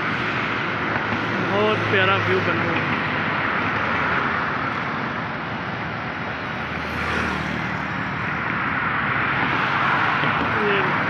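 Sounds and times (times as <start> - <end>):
highway traffic passing: 0.0 - 11.0.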